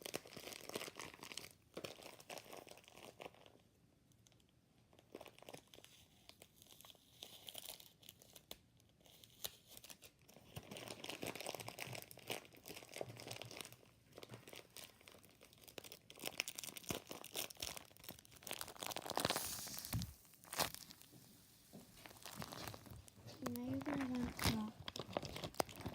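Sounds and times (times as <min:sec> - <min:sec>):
plastic bag and tape crinkling: 0:00.0 - 0:25.9.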